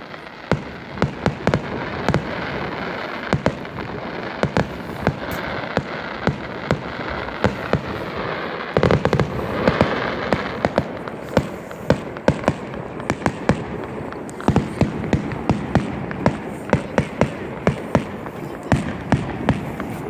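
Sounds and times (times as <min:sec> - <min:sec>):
fireworks cracking and popping: 0:00.0 - 0:20.0
fireworks hissing: 0:00.0 - 0:20.0.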